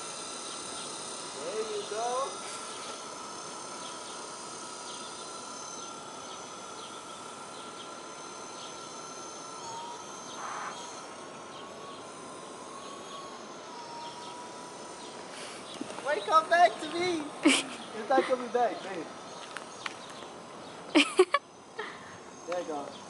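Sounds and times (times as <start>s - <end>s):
distant drone whine: 0.0s - 23.0s
outdoor hiss: 0.0s - 23.0s.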